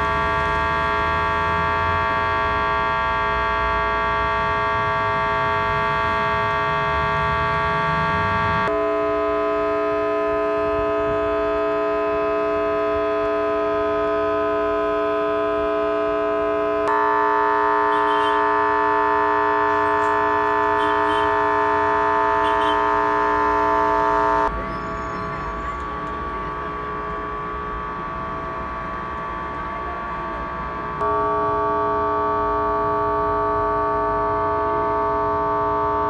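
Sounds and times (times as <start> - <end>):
traffic noise: 0.0 - 36.0.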